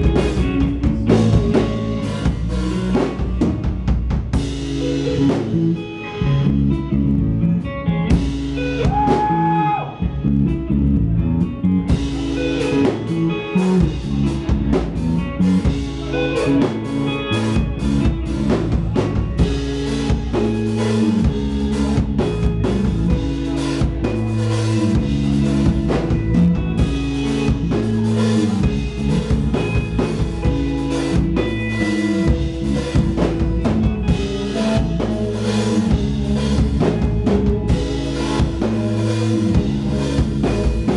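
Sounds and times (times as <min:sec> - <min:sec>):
electric guitar: 0:00.0 - 0:40.9.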